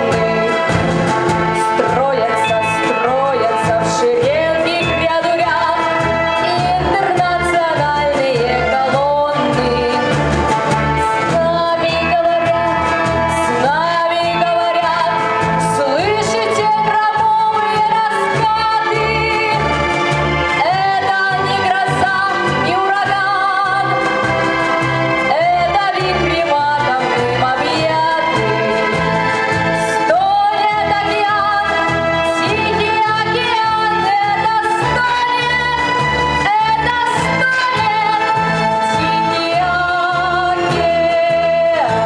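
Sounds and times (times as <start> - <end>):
instrumental accompaniment with pulsing bass: 0.0 - 42.0
woman singing with vibrato: 0.0 - 42.0.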